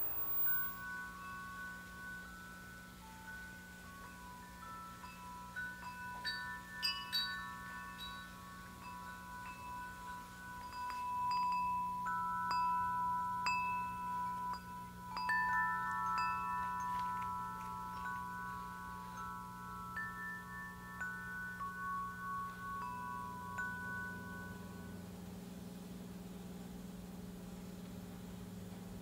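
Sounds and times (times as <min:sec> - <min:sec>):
wind chimes ringing: 0:00.0 - 0:25.2.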